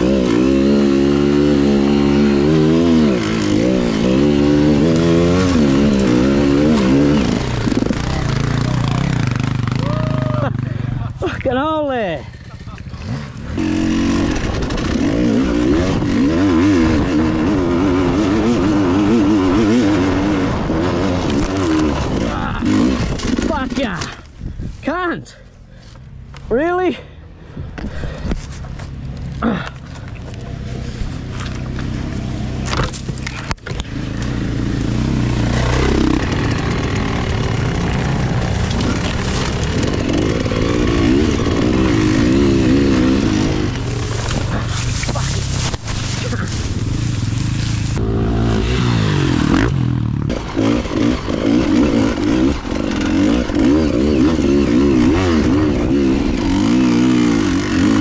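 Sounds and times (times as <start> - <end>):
dirt bike engine revving: 0.0 - 24.2, 28.9 - 58.0.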